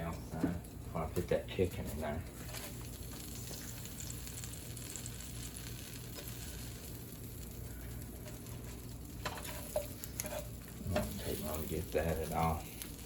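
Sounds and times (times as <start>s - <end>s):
chicken sizzling in a pan: 1.5s - 13.0s.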